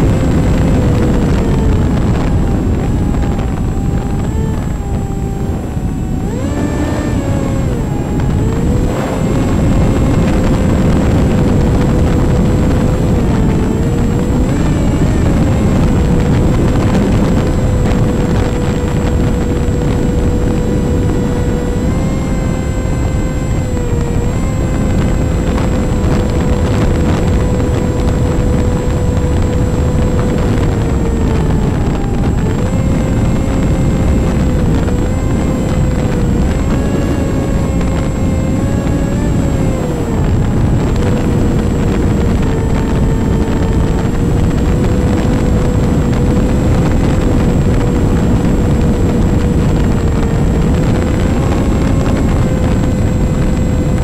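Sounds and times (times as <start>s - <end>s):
electric motor and propeller whine: 0.0s - 54.0s
wind rush on microphone: 0.0s - 54.0s.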